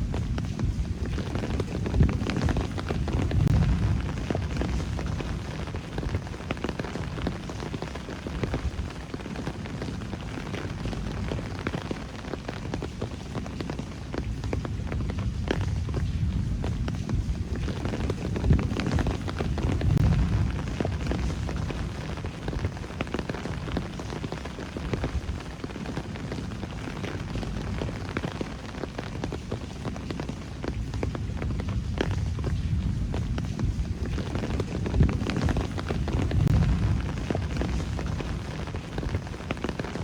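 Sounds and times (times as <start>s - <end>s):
continuous low rumble: 0.0s - 40.0s
raindrops ticking and splattering: 0.0s - 40.0s.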